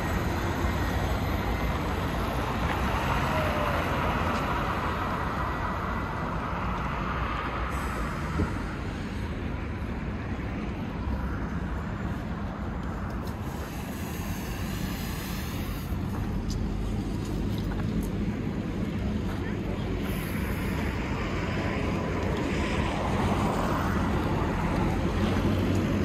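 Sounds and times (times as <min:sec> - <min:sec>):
passing cars and buses: 0:00.0 - 0:26.0.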